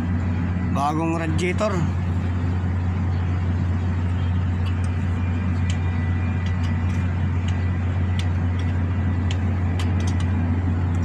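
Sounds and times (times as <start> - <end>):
engine idling drone: 0.0 - 11.0.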